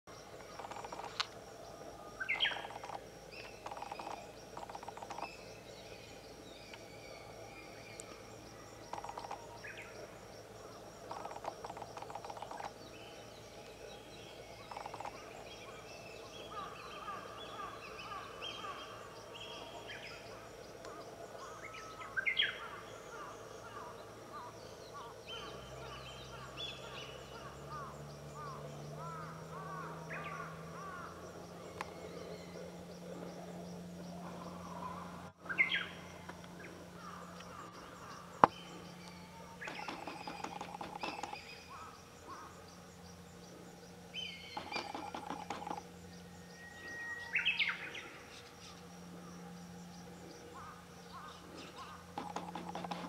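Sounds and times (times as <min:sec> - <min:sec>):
songbirds chirping: 0:00.0 - 0:53.0
low hum: 0:00.1 - 0:53.0.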